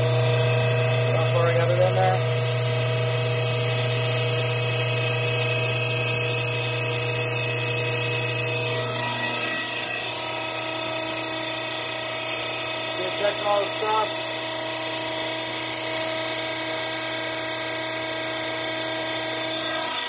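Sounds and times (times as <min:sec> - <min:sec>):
electric pump motor humming: 0:00.0 - 0:20.0.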